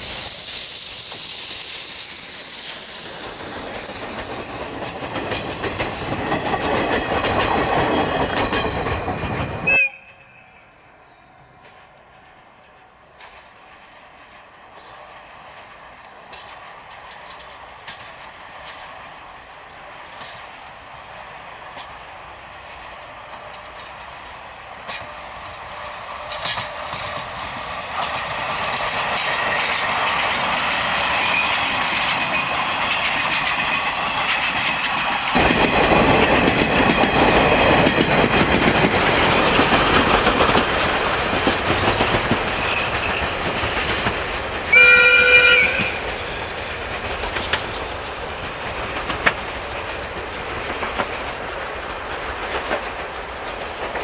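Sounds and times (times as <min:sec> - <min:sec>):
wheels clicking over rail joints: 0:00.0 - 0:09.8, 0:13.2 - 0:20.9, 0:21.7 - 0:54.0
deep train rumble: 0:00.0 - 0:54.0
steam locomotive train approaching: 0:00.0 - 0:54.0.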